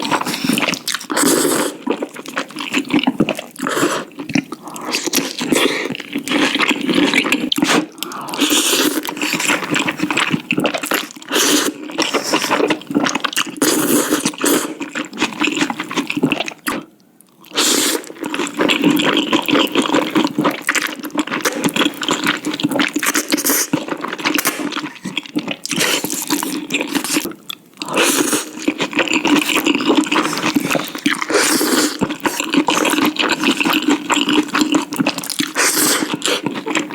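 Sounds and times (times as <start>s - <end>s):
person slurping and chewing noodles: 0.0s - 36.9s.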